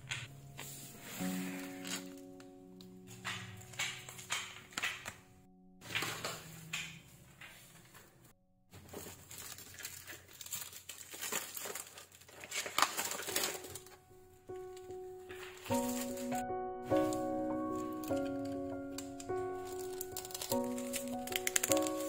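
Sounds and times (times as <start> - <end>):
plastic wrapping crinkling: 0.0 - 8.1, 8.7 - 22.0.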